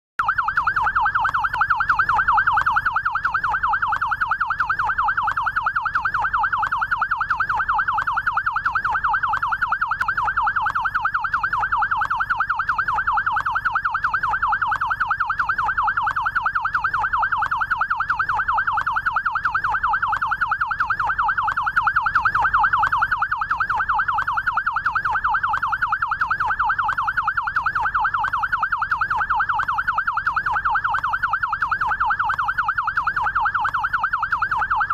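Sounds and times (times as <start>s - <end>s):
electronic siren yelp: 0.2s - 34.9s.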